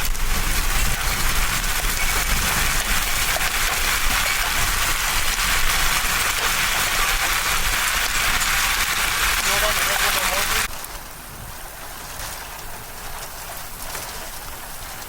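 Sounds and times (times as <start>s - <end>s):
hail and rain pelting: 0.0s - 15.0s
strong wind rumble: 0.0s - 15.0s.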